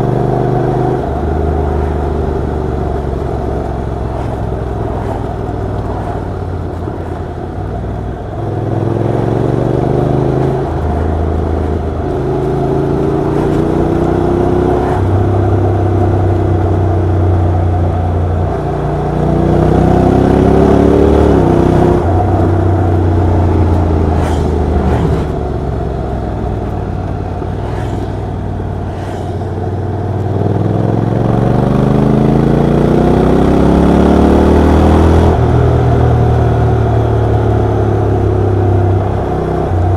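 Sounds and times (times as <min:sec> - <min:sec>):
motorcycle engine accelerating: 0:00.0 - 0:17.8, 0:19.2 - 0:38.5.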